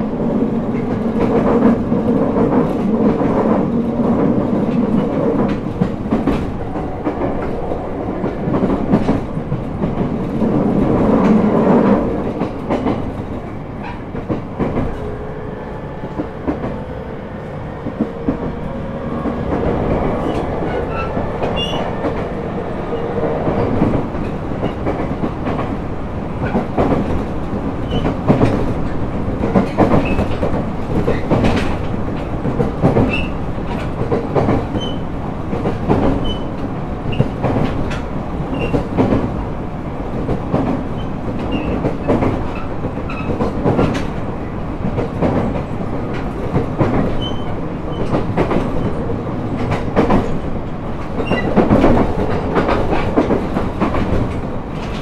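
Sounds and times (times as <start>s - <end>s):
train rolling rumble: 0.0s - 55.0s.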